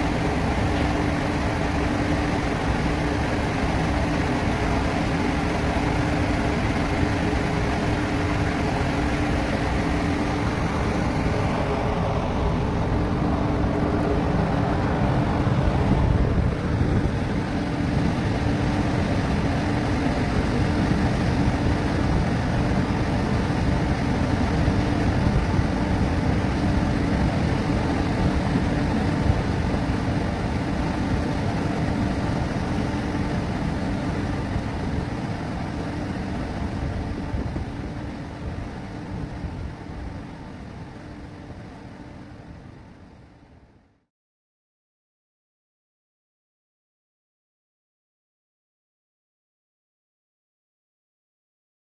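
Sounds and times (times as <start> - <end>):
ship engine droning: 0.0 - 44.0.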